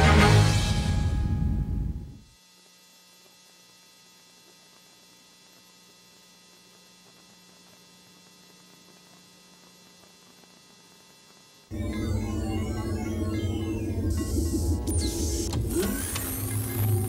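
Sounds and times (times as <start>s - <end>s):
faint electrical hum: 1.1s - 17.0s.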